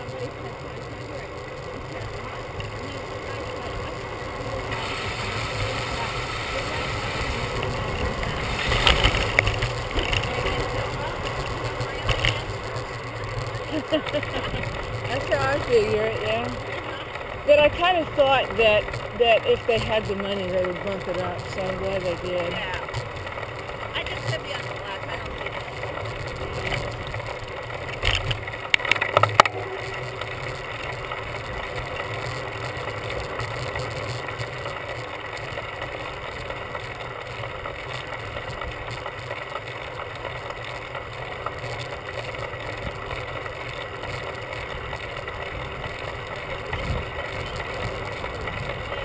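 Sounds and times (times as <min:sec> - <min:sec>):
bicycle tyres on pavement: 0:00.0 - 0:49.0.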